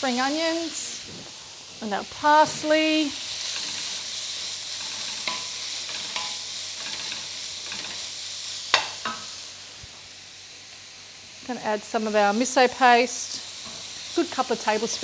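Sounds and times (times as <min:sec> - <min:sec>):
onions sizzling in frying pan: 0:00.0 - 0:15.0.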